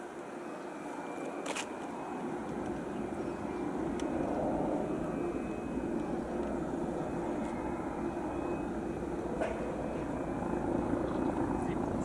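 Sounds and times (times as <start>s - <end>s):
jet engine noise: 0.0s - 12.0s.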